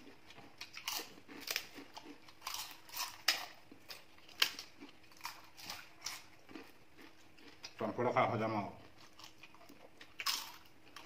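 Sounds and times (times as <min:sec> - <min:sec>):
chewing: 0:00.0 - 0:08.0, 0:08.8 - 0:11.0
crackers cracking and crunching: 0:00.0 - 0:11.0.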